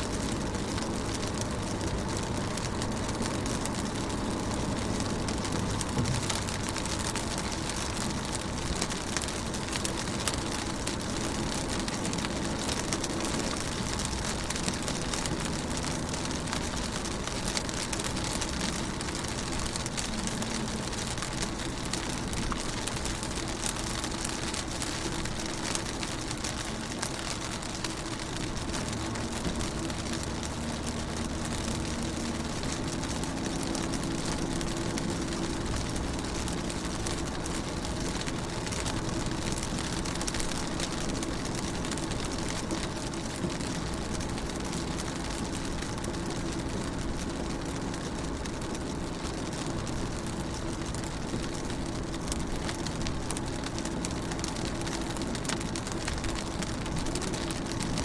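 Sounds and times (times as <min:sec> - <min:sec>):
rain on car window: 0:00.0 - 0:58.0.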